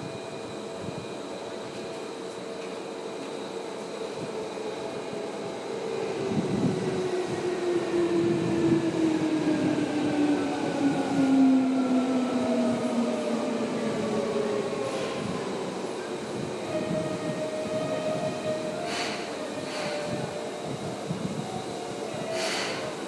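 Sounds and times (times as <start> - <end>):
train running gear rumble: 0.0 - 23.0.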